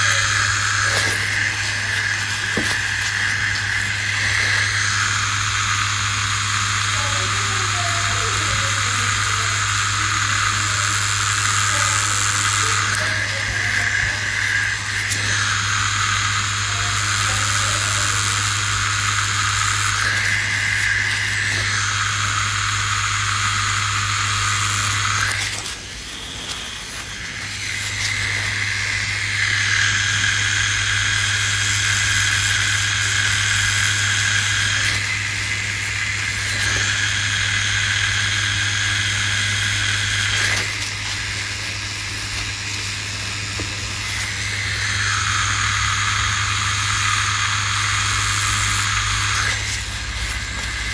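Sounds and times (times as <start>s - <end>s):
tattoo machine buzzing: 0.0s - 50.9s.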